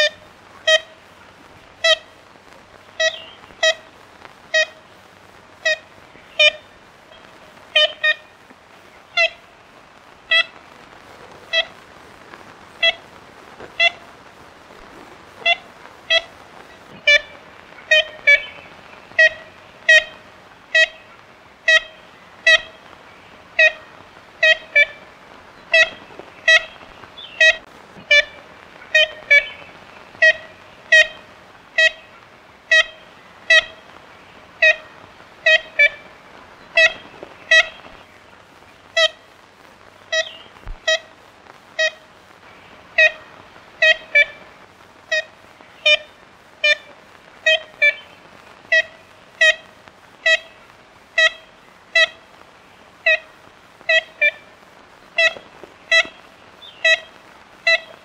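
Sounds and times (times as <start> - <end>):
woodpecker nasal calls: 0.0 - 5.0, 5.6 - 11.8, 12.7 - 14.1, 14.7 - 39.4, 40.0 - 41.2, 41.8 - 58.0.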